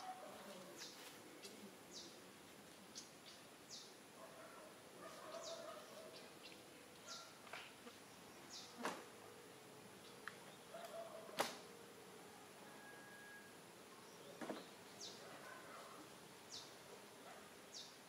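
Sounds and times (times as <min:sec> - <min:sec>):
small birds chirping: 0:00.0 - 0:09.1, 0:09.9 - 0:11.4, 0:13.9 - 0:18.0.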